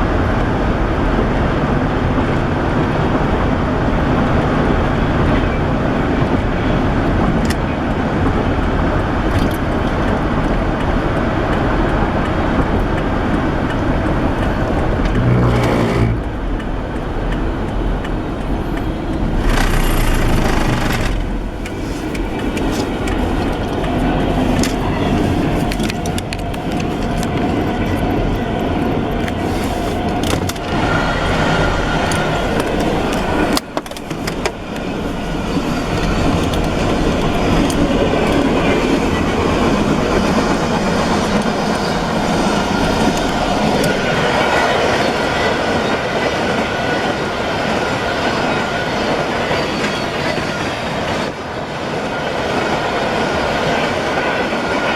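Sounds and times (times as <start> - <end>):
train wheels rolling on rails: 0.0 - 54.9.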